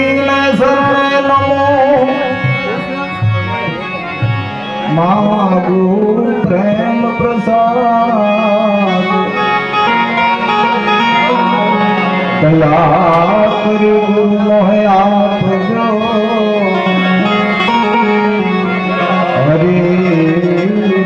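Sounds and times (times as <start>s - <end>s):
harmonium held note: 0.0s - 21.0s
ornamented melody line: 0.0s - 21.0s
tabla: 0.0s - 21.0s.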